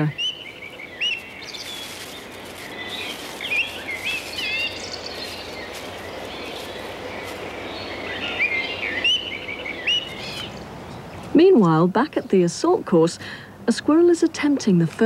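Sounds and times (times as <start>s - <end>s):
small birds chirping: 0.0s - 14.8s
steady outdoor hiss: 0.0s - 15.0s.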